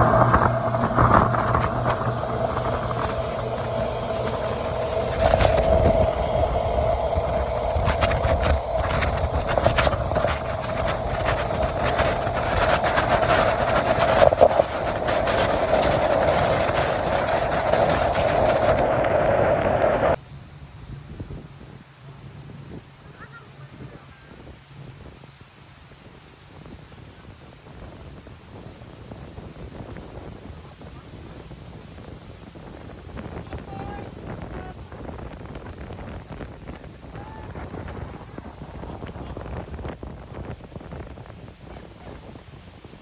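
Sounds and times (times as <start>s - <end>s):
motorboat engine drone: 0.0s - 43.0s.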